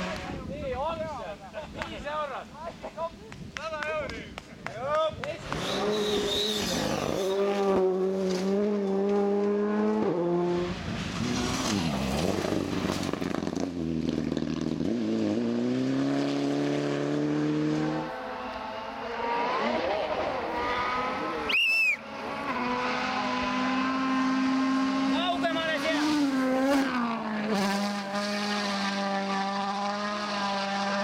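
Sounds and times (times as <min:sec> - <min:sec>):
rally cars racing past: 0:05.3 - 0:31.0.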